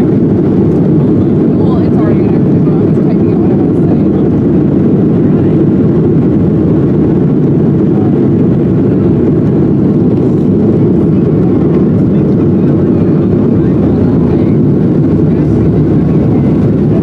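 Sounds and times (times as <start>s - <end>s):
airplane cabin engine and airflow noise: 0.0s - 17.0s.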